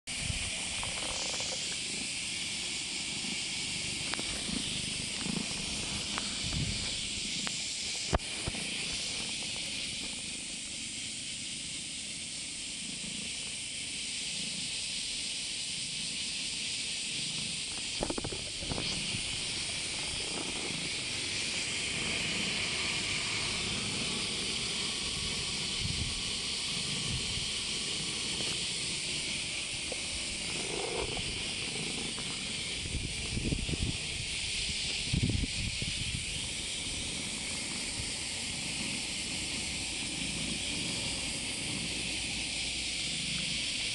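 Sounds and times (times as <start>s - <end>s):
steady high hiss: 0.0s - 43.9s
cat rubbing against camera: 0.1s - 11.2s, 15.7s - 43.6s.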